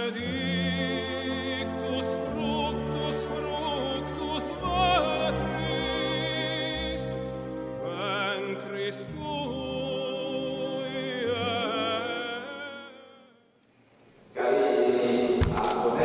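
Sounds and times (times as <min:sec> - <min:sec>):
operatic solo singing: 0:00.0 - 0:13.4.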